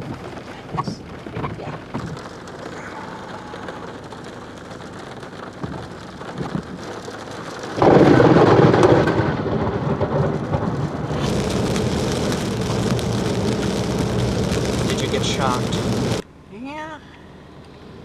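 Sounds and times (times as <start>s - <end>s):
rain falling: 0.0s - 16.2s
thunder clap and rumble: 0.0s - 16.2s.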